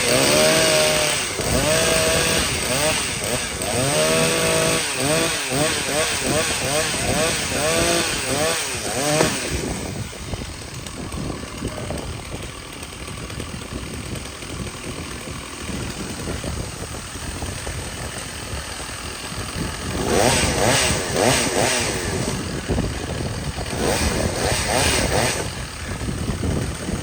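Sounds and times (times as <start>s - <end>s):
chainsaw running and revving: 0.0s - 27.0s.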